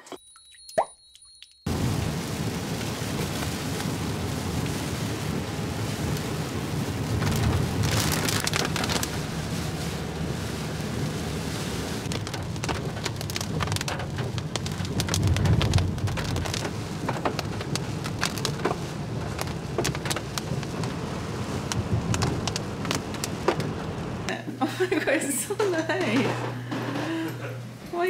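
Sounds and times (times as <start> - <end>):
rain on car roof: 1.7 - 24.3
tyres rumbling on wet road: 1.7 - 24.3.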